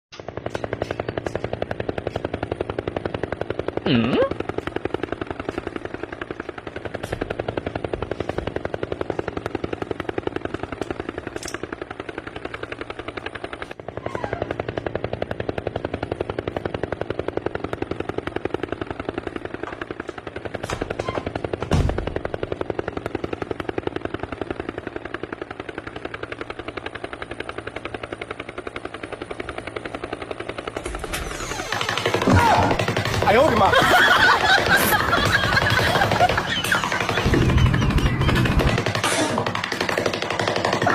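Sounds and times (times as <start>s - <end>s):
rapid machine-like pulsing rattle: 0.2s - 40.9s.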